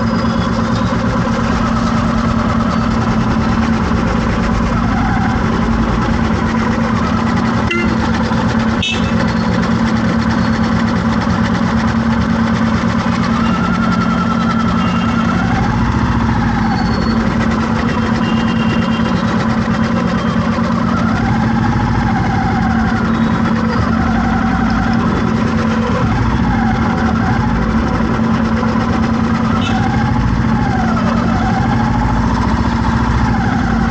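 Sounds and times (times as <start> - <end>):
vehicle engine hum: 0.0 - 33.9.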